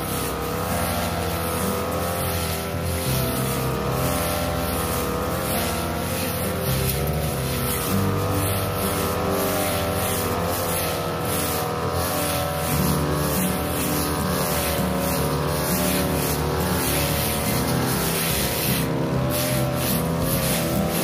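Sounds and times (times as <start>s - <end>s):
blade cutting through grass: 0.0s - 21.0s
brush cutter engine at high revs: 0.0s - 21.0s.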